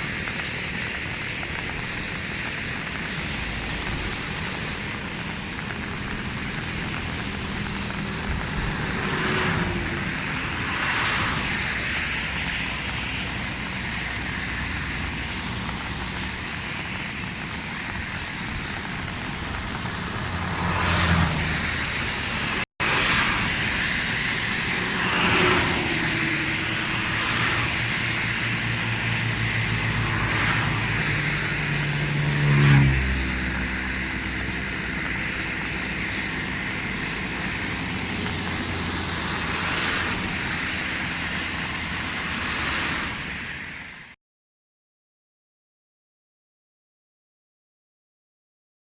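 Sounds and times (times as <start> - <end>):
vehicles passing by: 0.0 - 44.2.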